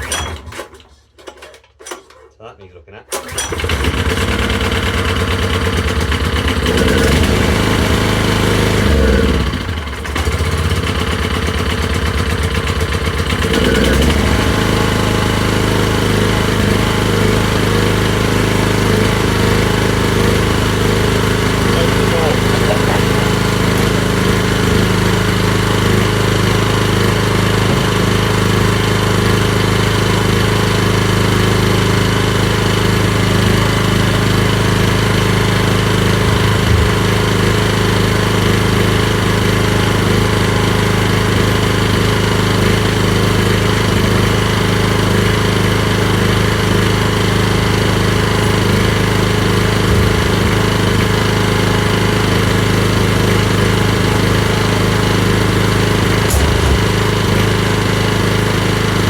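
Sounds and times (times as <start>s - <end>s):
generator engine running: 3.1s - 59.0s.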